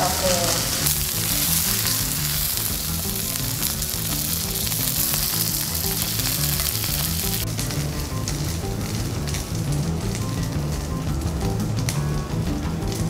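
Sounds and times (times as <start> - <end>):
steak sizzling in a frying pan: 0.0 - 13.0.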